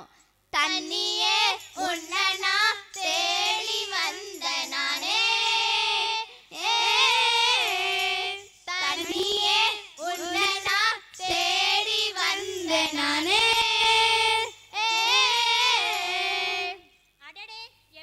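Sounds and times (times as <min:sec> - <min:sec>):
girls singing into microphones: 0:00.0 - 0:16.9.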